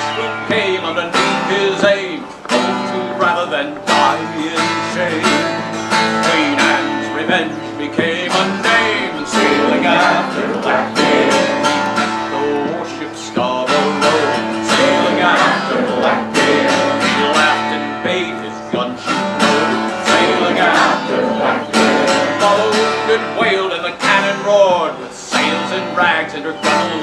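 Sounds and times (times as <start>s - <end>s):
acoustic guitar strumming: 0.0s - 27.0s
man singing folk ballad: 0.0s - 27.0s.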